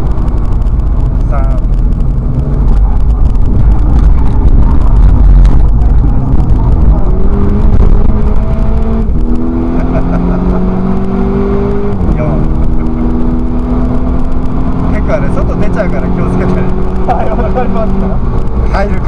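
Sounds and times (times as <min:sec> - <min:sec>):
race car engine from inside cabin: 0:00.0 - 0:19.0.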